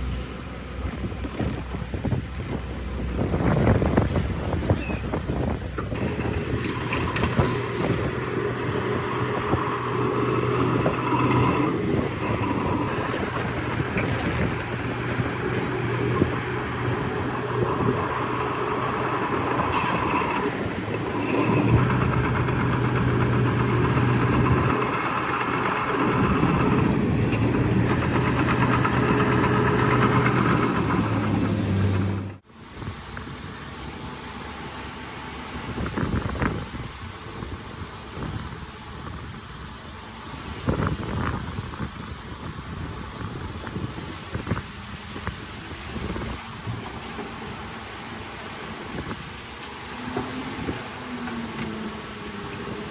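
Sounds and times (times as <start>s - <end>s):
heavy diesel engine running: 0.0s - 32.7s, 33.3s - 52.9s.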